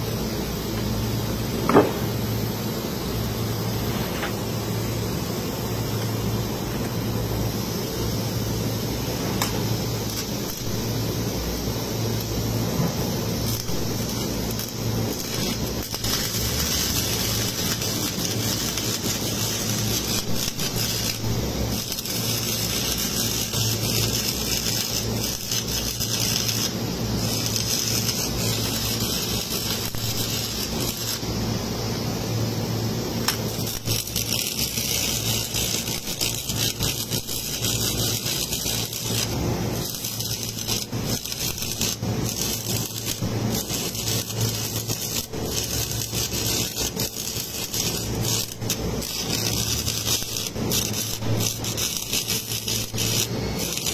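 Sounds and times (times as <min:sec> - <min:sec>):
welding arc crackling: 0:00.0 - 0:53.9.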